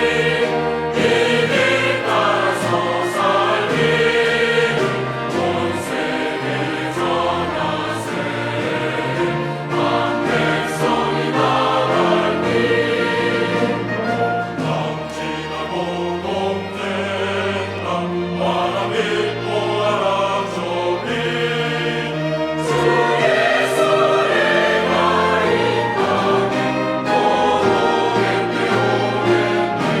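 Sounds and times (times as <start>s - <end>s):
church choir singing a hymn: 0.0s - 30.0s
organ: 0.0s - 30.0s
piano: 0.0s - 30.0s
strings woodwinds and horn: 0.0s - 30.0s.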